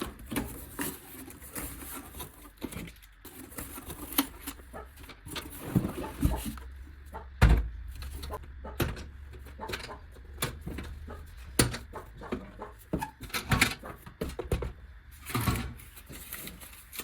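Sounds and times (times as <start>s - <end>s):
handling clicks and rustles: 0.0s - 17.0s.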